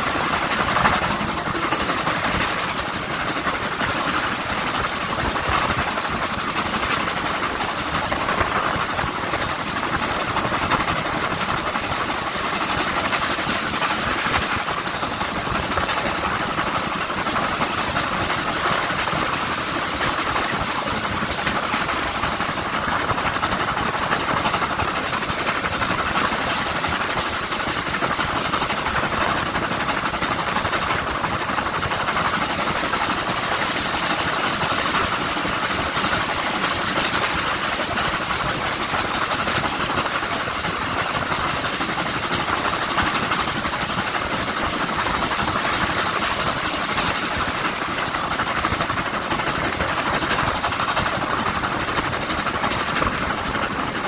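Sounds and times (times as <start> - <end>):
steam locomotive working hard: 0.0 - 54.0.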